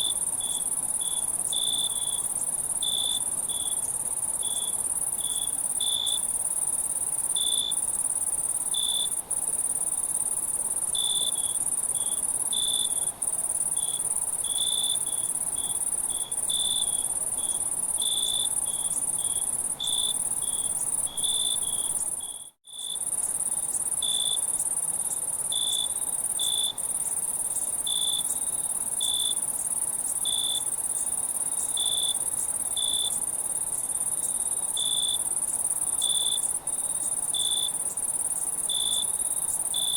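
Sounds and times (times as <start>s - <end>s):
crickets trilling: 0.0s - 39.9s
low cricket chirps: 0.0s - 39.9s.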